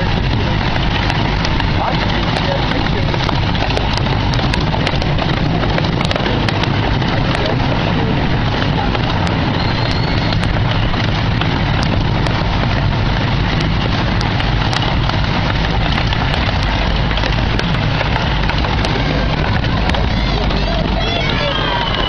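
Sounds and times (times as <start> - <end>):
miniature train rumbling: 0.0 - 22.0
train wheels clicking: 0.0 - 22.0.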